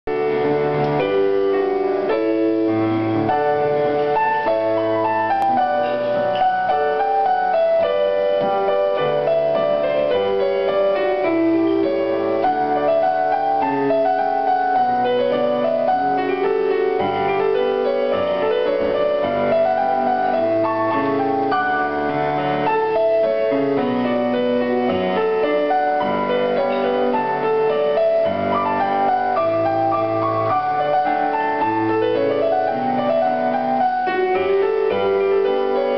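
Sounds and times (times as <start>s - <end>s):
solo piano melody: 0.0s - 35.9s.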